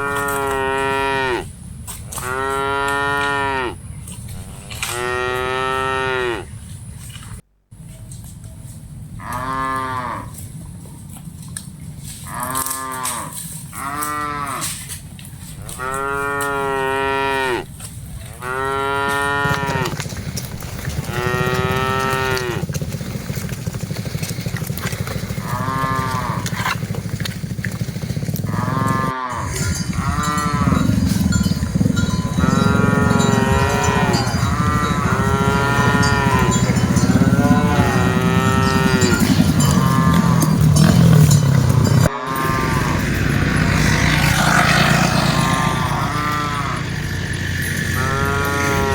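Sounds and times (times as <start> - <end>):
cattle mooing: 0.0 - 6.5, 9.2 - 10.5, 12.2 - 14.8, 15.6 - 22.8, 25.3 - 26.8, 28.4 - 48.9.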